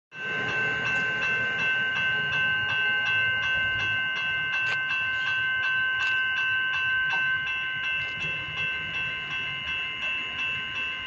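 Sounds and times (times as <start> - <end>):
level crossing warning bells: 0.1 - 11.0
steady ringing tone: 0.1 - 11.0.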